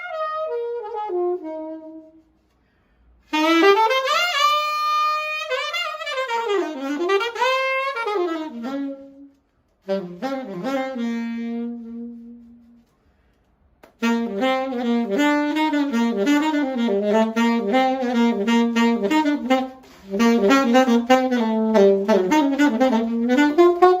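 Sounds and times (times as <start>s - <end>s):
alto saxophone melody: 0.0s - 2.6s, 3.2s - 12.9s, 13.8s - 24.0s.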